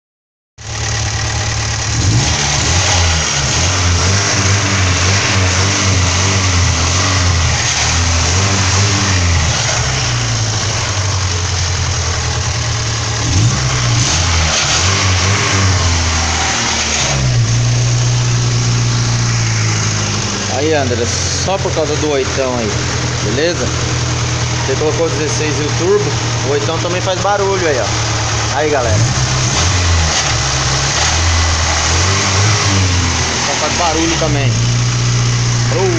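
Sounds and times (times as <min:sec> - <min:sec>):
car engine revving: 0:00.6 - 0:35.9.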